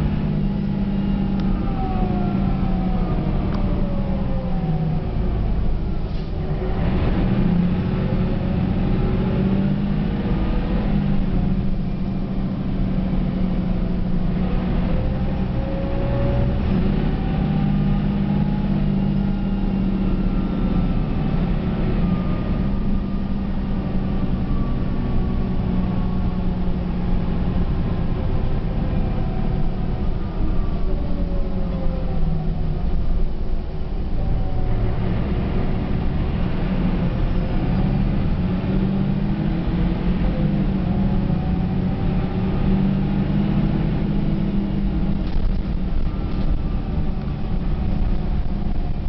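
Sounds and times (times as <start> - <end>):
bus engine drone: 0.0 - 49.0.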